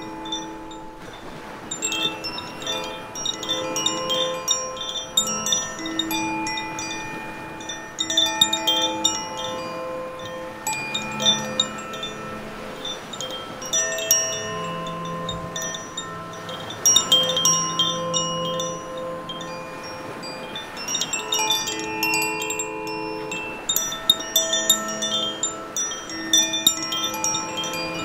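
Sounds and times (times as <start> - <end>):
waves breaking over rocks: 0.0 - 28.0
wind chime tinkling: 0.0 - 28.0.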